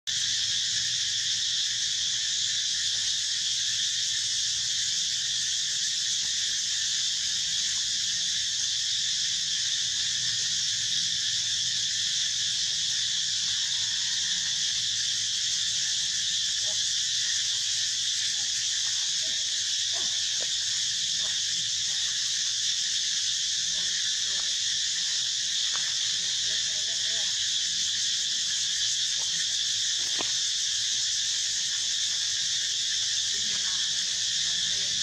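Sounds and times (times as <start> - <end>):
insect chorus hiss: 0.1 - 35.0.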